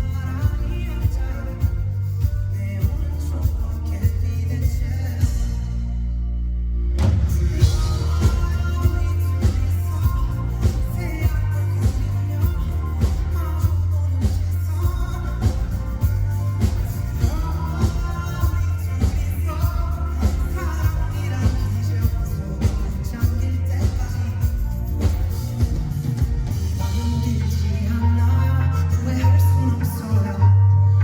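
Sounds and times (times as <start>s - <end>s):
person singing: 0.0s - 5.8s, 7.3s - 31.0s
live pop-rock band music: 0.0s - 6.1s, 7.0s - 31.0s.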